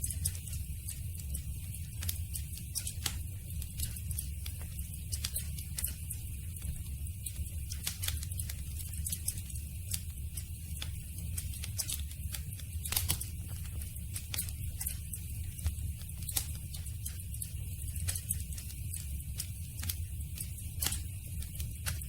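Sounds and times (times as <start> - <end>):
campfire snapping and popping: 0.0 - 22.0
low fire rumble: 0.0 - 22.0.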